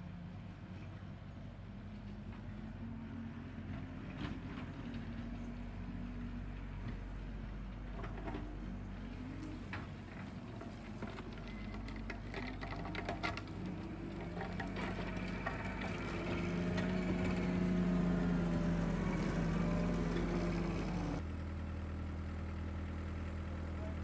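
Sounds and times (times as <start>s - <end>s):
tractor engine running: 3.6s - 24.0s.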